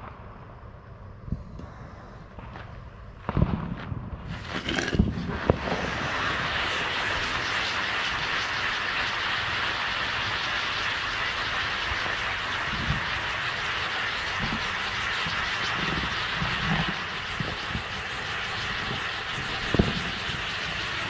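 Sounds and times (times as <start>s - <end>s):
firework fountain hissing: 1.6s - 21.0s.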